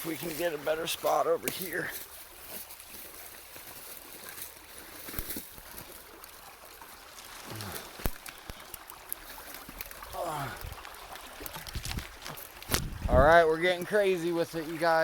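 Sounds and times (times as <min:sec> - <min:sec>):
creek trickling: 0:00.0 - 0:15.0.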